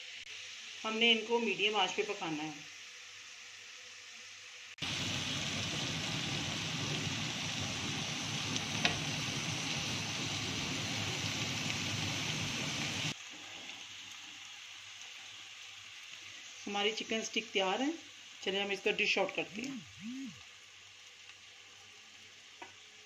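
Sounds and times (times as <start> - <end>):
skewers sizzling in grill pan: 0.0 - 23.0.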